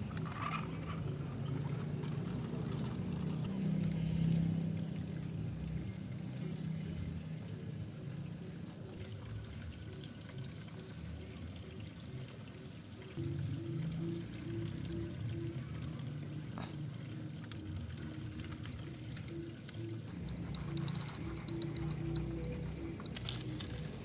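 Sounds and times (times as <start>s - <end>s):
background music low held notes: 0.0s - 24.0s.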